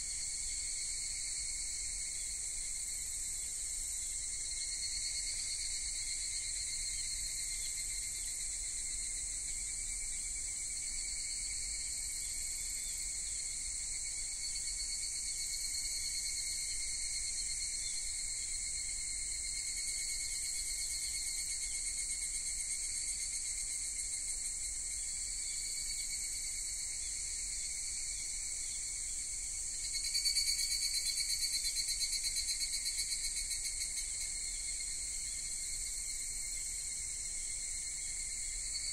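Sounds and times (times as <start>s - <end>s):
crickets and insects trilling: 0.0s - 38.9s.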